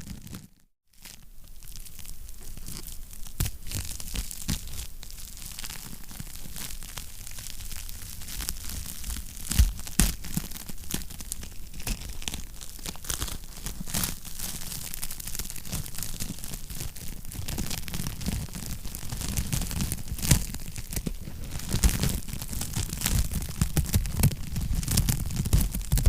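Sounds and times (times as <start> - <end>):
wood fire crackling and popping: 2.4 - 26.0.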